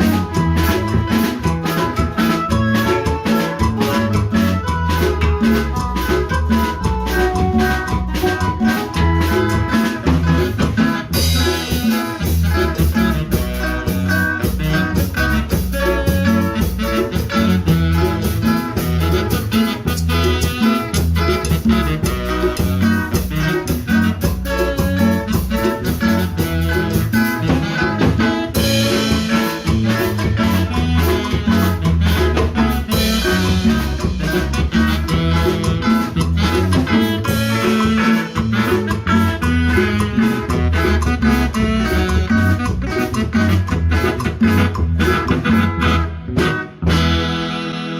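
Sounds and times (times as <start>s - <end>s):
band playing salsa music: 0.0s - 47.9s.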